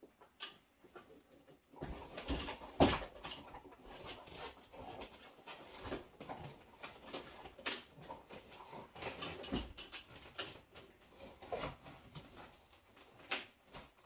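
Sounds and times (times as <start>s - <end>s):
rustling and scraping: 0.1s - 14.0s.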